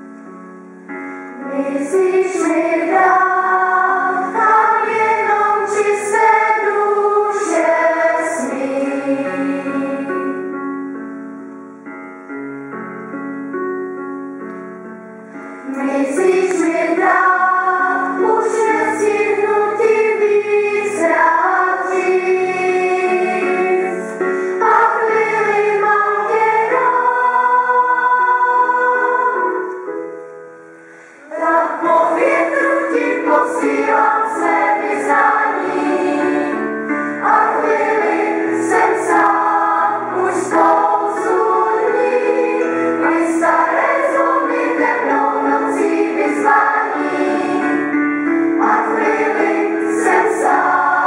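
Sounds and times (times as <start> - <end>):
children's choir singing: 1.3 - 10.6, 15.6 - 30.1, 31.2 - 51.0.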